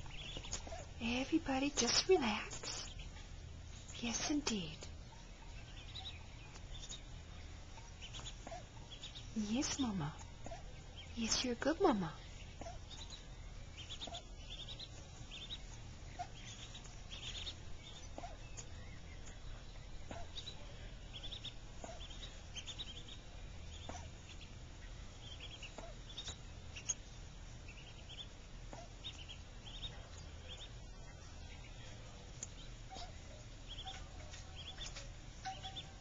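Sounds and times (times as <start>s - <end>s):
ducklings peeping: 0.0s - 36.0s.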